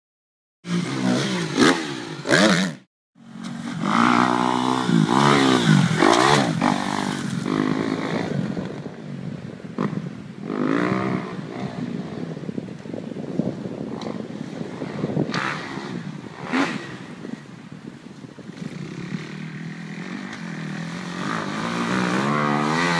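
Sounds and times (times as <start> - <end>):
dirt bike engine revving: 0.7 - 8.8, 9.8 - 12.2, 14.0 - 17.4, 18.5 - 22.9.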